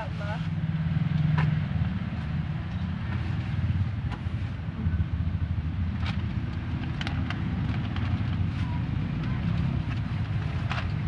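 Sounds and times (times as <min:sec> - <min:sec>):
low engine-like rumble: 0:00.0 - 0:11.0.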